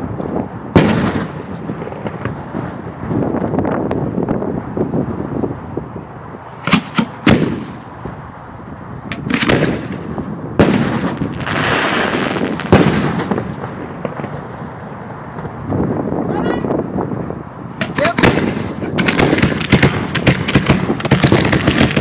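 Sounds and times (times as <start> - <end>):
fireworks bursting with bangs: 0.0 - 5.4, 6.0 - 22.0.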